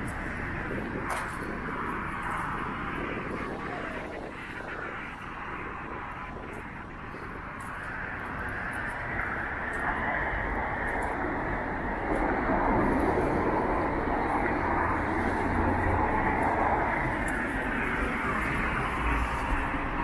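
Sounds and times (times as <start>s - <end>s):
cars going by: 0.0s - 20.0s.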